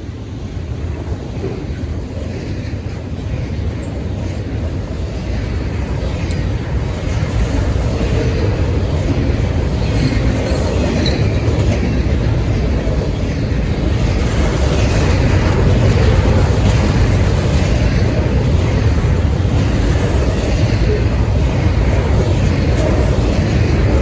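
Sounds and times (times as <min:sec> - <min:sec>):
freight train rumbling past: 0:00.0 - 0:24.0
wheels clacking over rails: 0:00.1 - 0:24.0.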